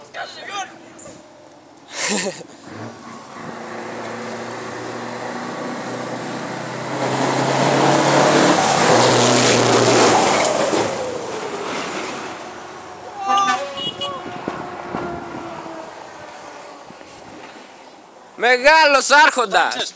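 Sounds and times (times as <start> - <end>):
diesel truck engine passing: 0.0 - 18.3.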